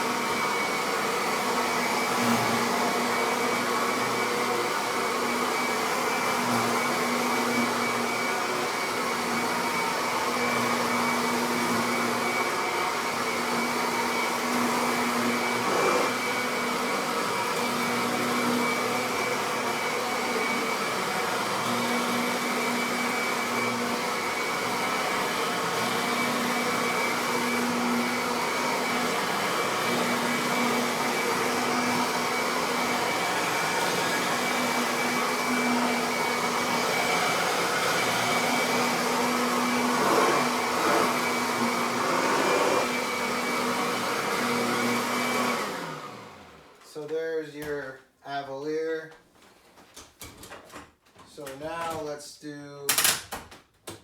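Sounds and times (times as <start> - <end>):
vacuum cleaner running on carpet: 0.0 - 46.8.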